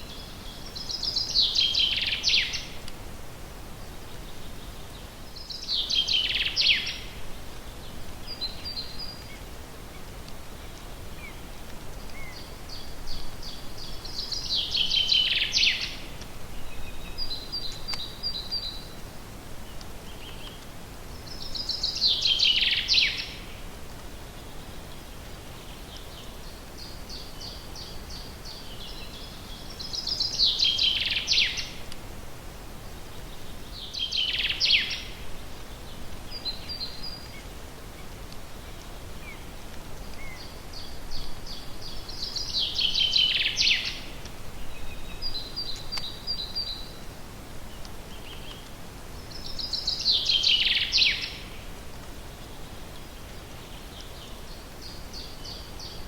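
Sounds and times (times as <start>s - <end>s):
songbird singing: 0.0s - 32.0s, 32.6s - 56.0s
steady background hiss: 0.0s - 56.0s.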